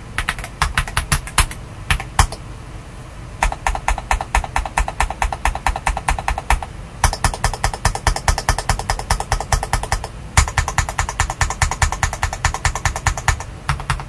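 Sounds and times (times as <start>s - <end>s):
fast typing on mechanical keyboard: 0.2s - 2.4s, 3.4s - 14.0s.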